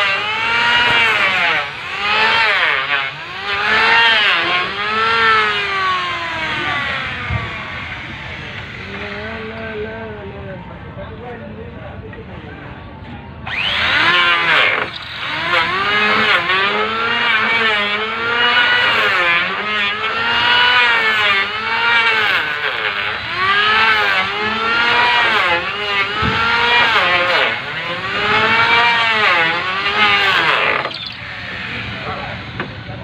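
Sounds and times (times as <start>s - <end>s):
electric planer whining: 0.0s - 10.5s, 13.4s - 33.0s.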